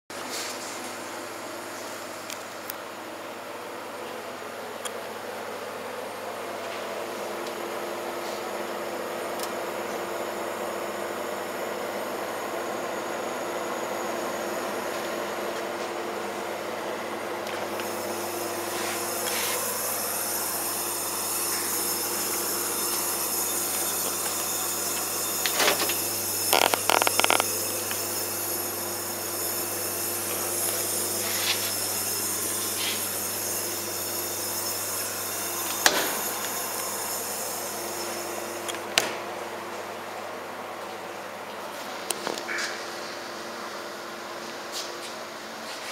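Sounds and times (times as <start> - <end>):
mechanical hum and hiss: 0.1 - 45.9.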